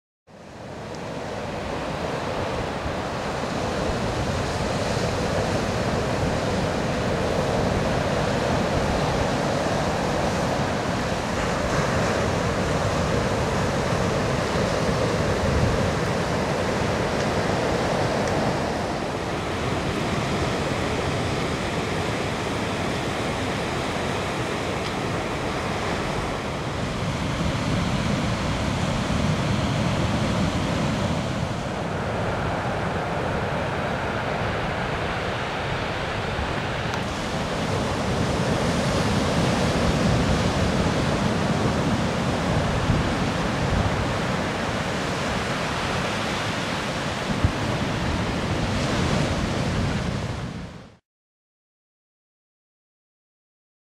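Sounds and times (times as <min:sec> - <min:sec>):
ocean surf breaking: 0:00.4 - 0:51.0.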